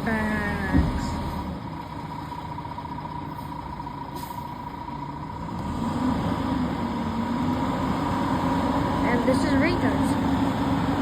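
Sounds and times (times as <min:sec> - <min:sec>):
garbage truck engine whining: 0:00.0 - 0:11.0.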